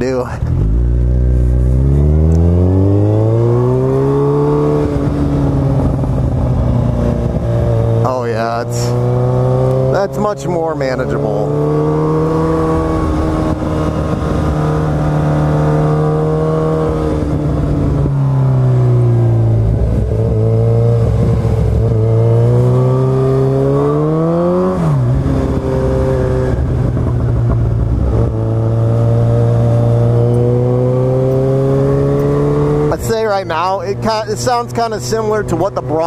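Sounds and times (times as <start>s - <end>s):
motorcycle exhaust note: 0.4s - 36.0s.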